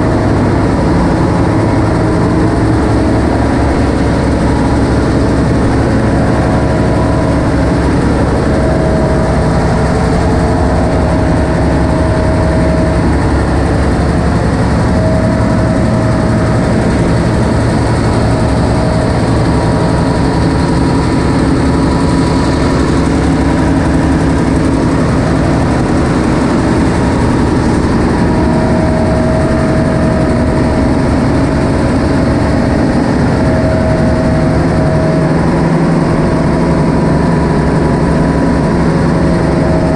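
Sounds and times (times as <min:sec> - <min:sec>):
high machine whine: 0:00.0 - 0:39.9
ship diesel engine drone: 0:00.0 - 0:39.9.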